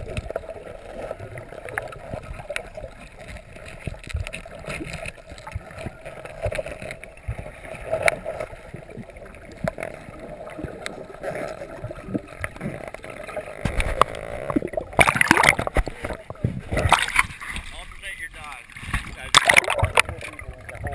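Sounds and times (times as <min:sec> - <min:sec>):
rush of water: 0:00.0 - 0:20.9
sharp clicks and crackles: 0:00.0 - 0:20.9.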